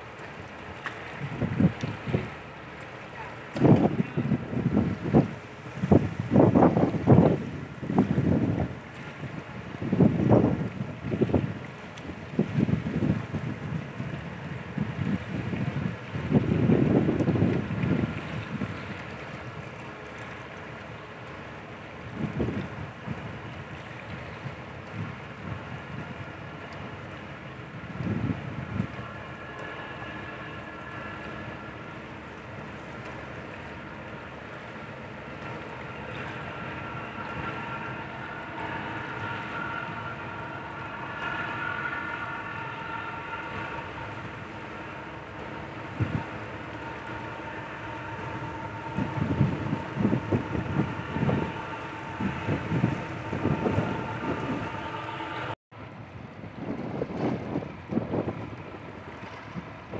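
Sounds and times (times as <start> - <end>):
wind buffeting microphone: 0.0 - 20.8, 21.8 - 59.9
faint steady whine: 0.0 - 56.2
ship engines droning: 0.0 - 59.9.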